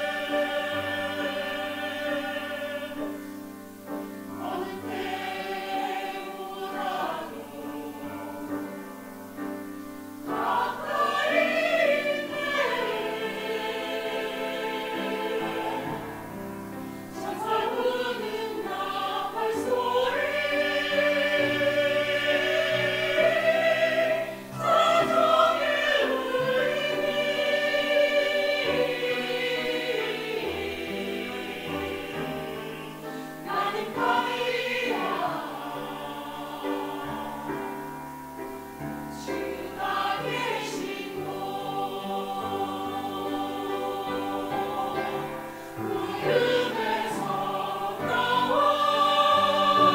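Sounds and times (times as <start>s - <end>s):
choir singing in harmony: 0.0s - 49.9s.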